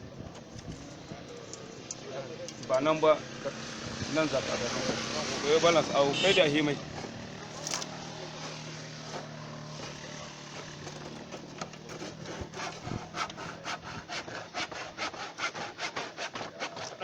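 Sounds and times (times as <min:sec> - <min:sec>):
hand saw cutting wood: 0:00.2 - 0:17.0.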